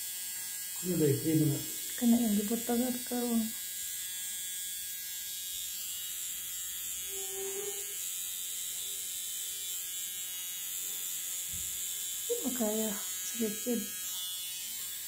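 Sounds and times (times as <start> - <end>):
tattoo pen buzzing: 0.0 - 15.0.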